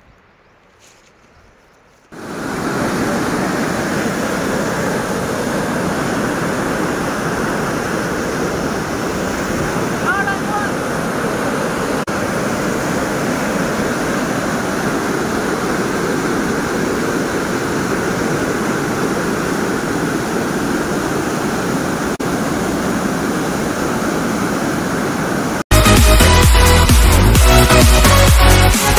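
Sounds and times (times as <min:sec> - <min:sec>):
river rapids rushing over boulders: 0:02.1 - 0:25.6.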